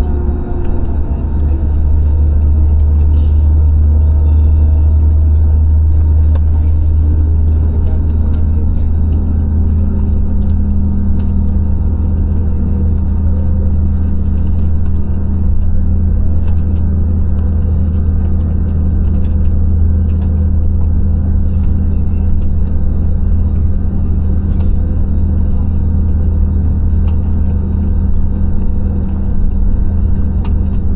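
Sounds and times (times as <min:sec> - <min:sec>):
jet cabin engine rumble: 0:00.0 - 0:30.9.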